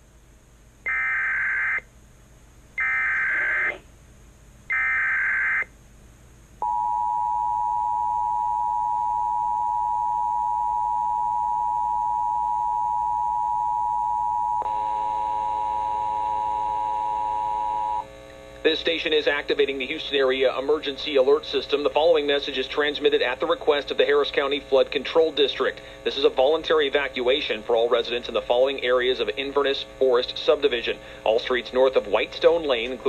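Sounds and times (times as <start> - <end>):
mains hum: 0.0 - 33.0.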